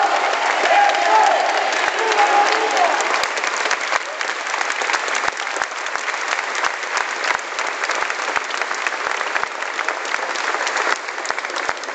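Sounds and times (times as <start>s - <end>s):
large crowd applauding: 0.0s - 11.9s.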